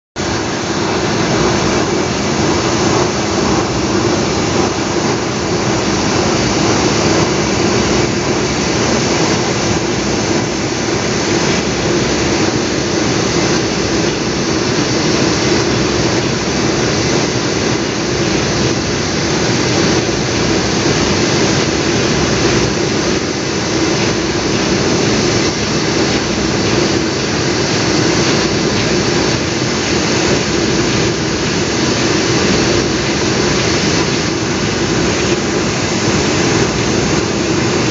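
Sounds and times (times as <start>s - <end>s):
dryer machine hum: 0.0s - 37.9s.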